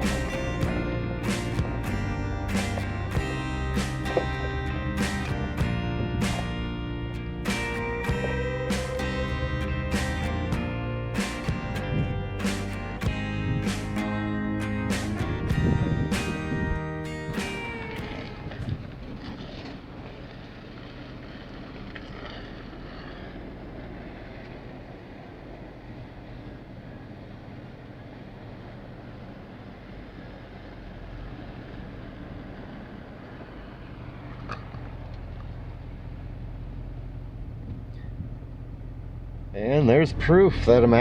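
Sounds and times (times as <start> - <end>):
road and wind noise: 0.0 - 41.0
truck engine drone: 0.0 - 41.0.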